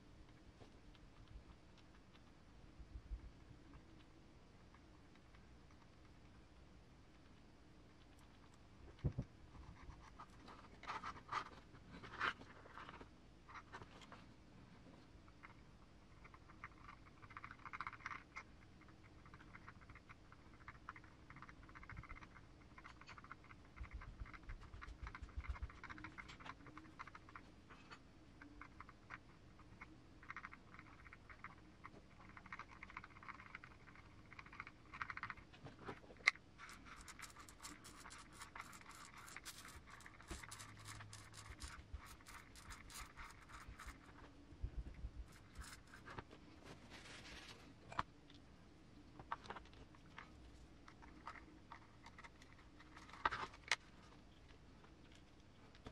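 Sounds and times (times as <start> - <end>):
faint scratching of parts: 0.0 - 55.9.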